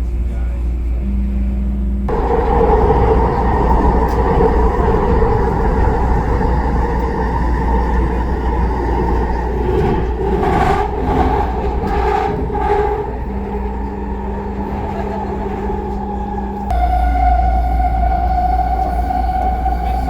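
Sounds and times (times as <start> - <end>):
low hum: 0.0 - 20.0
train rumbling on guideway: 0.0 - 20.0.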